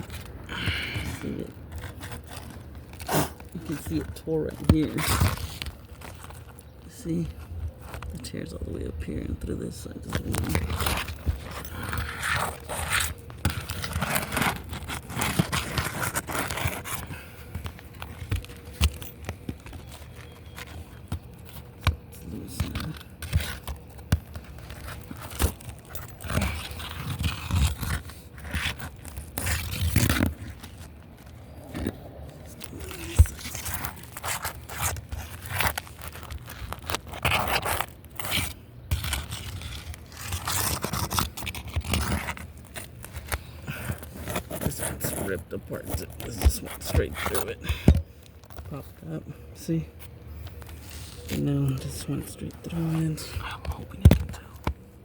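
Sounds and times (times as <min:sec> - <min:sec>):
roof shingles scraping and tearing: 0:00.0 - 0:07.0, 0:09.7 - 0:48.8.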